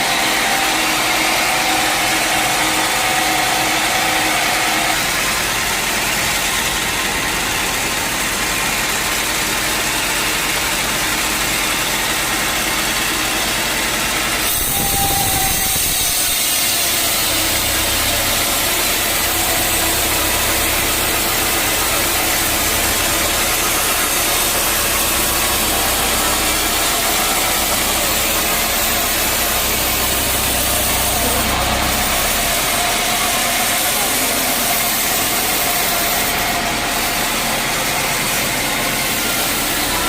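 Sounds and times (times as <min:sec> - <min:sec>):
sawmill sawing through log: 0:00.0 - 0:40.0.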